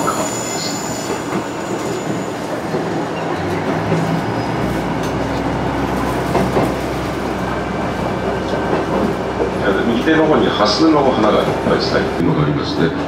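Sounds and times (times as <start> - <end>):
clickety-clack over rail joints: 1.1 - 13.0.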